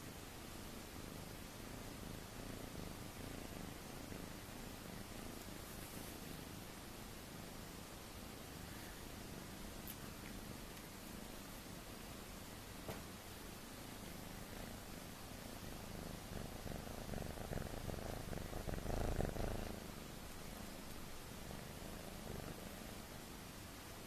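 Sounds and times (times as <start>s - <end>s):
kitten purring: 0.0s - 24.0s.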